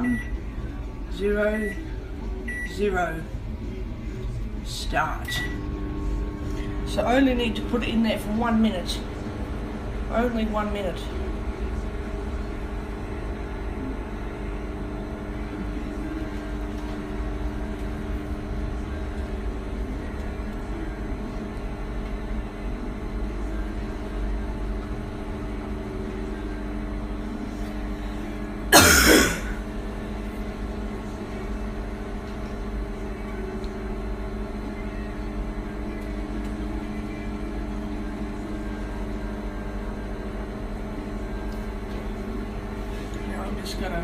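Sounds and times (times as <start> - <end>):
microwave oven humming: 0.0 - 44.0.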